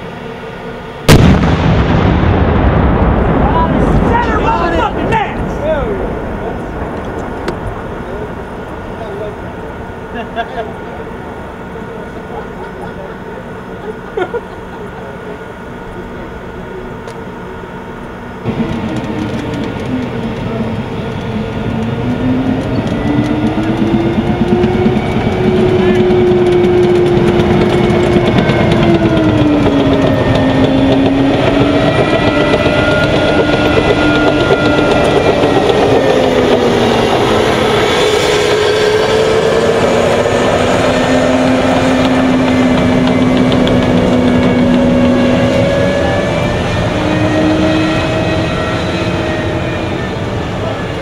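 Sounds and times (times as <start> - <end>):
clank and rumble of tracks: 0.0 - 51.0
gas turbine engine whine: 0.0 - 51.0.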